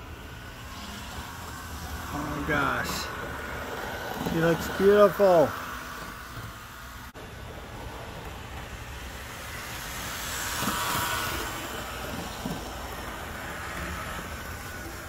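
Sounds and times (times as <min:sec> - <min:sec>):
model train motor whirring: 0:00.0 - 0:15.0.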